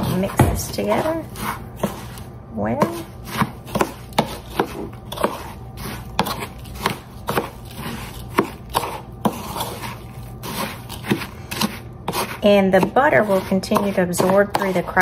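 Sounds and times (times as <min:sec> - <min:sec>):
crumbs scraping and rustling: 0:00.0 - 0:15.0.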